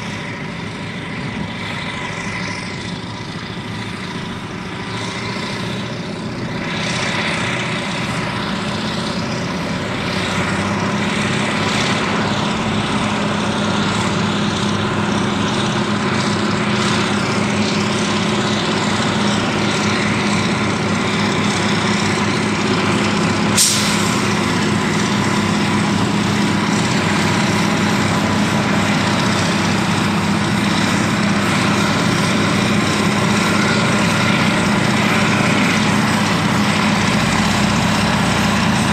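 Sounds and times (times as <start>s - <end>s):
diesel engines running under load: 0.0s - 38.9s.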